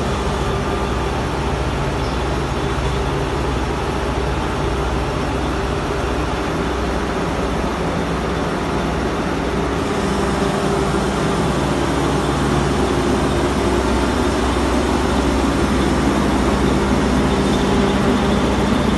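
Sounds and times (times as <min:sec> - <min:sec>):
air compressors humming and hissing: 0:00.0 - 0:18.9.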